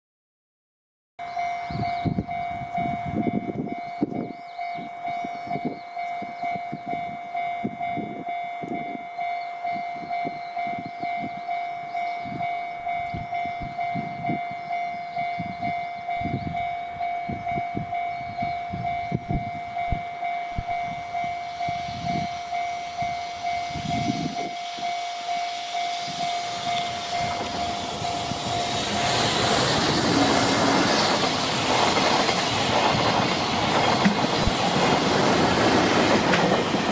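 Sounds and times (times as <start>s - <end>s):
level crossing alarm ringing: 1.2s - 31.4s
freight train approaching: 1.2s - 36.9s.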